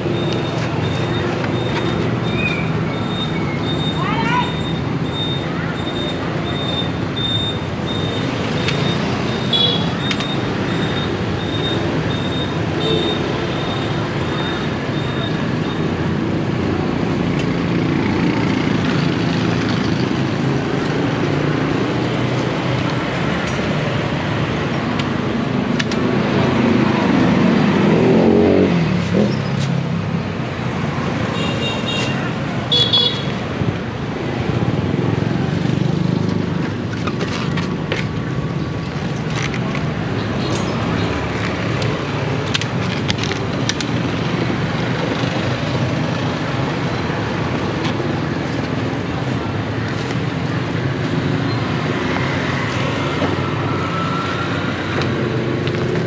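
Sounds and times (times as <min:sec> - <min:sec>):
street traffic: 0:00.0 - 0:56.0.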